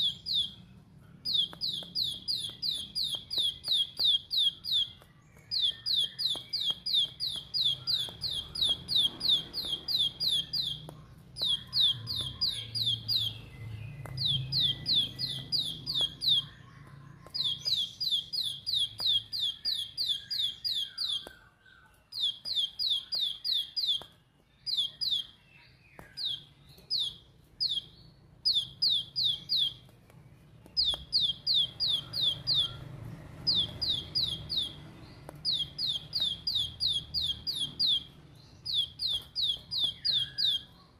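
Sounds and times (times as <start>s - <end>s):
bird singing rapid high notes: 0.0s - 40.9s.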